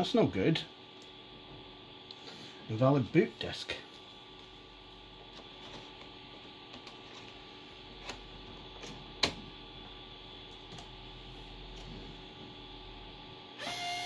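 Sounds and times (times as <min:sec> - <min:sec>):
laptop hum: 0:00.0 - 0:14.0.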